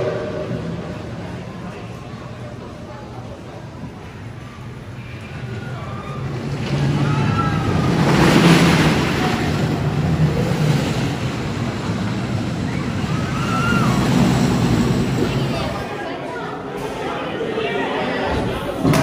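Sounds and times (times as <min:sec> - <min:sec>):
roller coaster train rumbling: 0:00.0 - 0:19.0.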